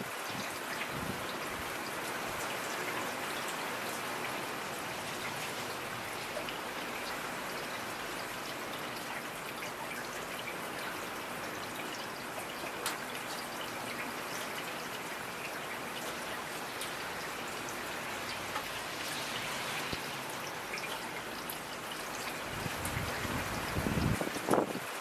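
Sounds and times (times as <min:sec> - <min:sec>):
steady rainfall hiss: 0:00.0 - 0:25.0.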